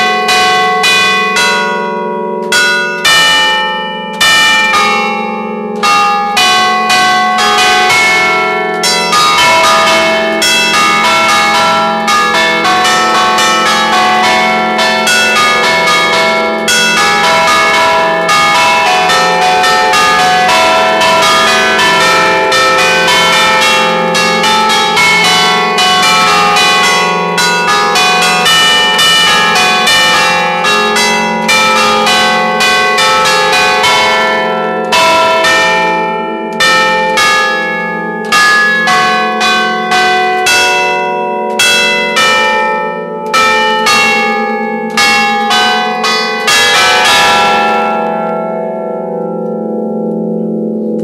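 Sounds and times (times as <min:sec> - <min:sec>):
church bells ringing: 0:00.0 - 0:51.0.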